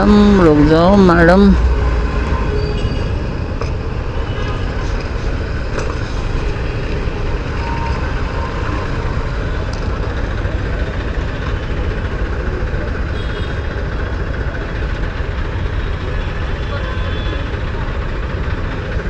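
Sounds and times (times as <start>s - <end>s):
motorcycle engine rumble: 0.0s - 19.0s
street traffic: 0.0s - 19.0s.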